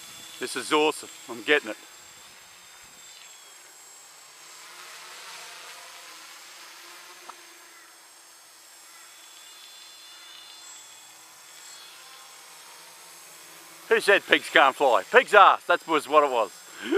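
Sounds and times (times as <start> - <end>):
drone propellers buzzing: 0.0 - 16.9.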